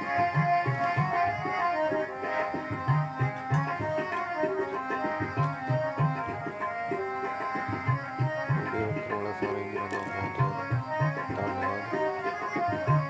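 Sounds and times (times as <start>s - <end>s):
music melody: 0.0s - 13.0s
tabla drumming: 0.0s - 13.0s.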